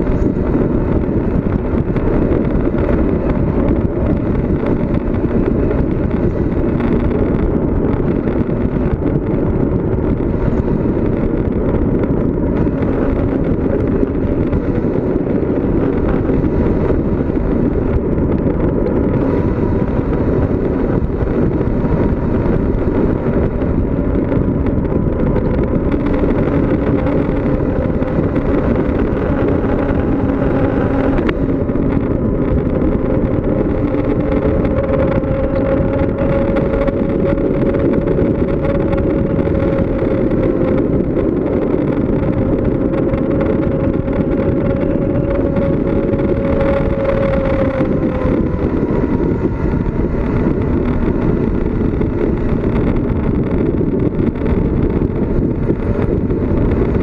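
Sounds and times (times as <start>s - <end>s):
faint tonal hum: 0.0s - 57.0s
wind buffeting microphone: 0.0s - 57.0s.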